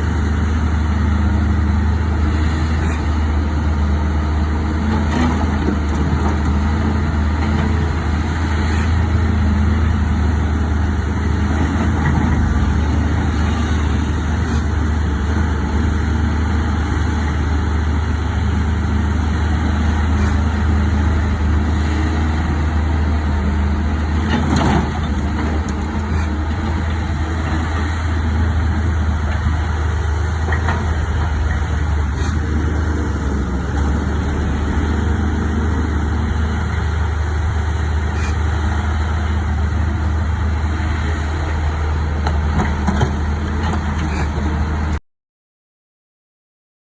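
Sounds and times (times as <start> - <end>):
excavator diesel engine running: 0.0 - 45.0
excavator digging rock: 2.2 - 9.9, 10.6 - 17.9, 18.6 - 45.0.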